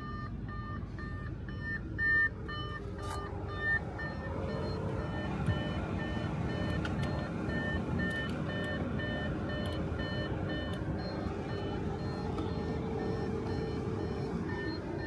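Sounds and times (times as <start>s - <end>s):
short electronic beeps: 0.0s - 15.0s.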